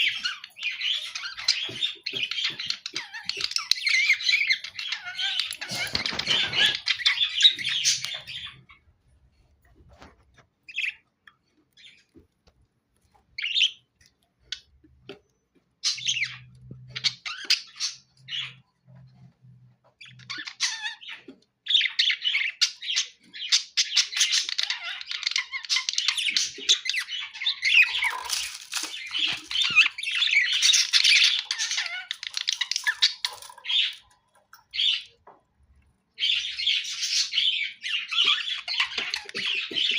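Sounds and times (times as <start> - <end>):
budgerigars chirping and squawking: 0.0 - 8.9, 9.7 - 12.4, 13.0 - 39.9.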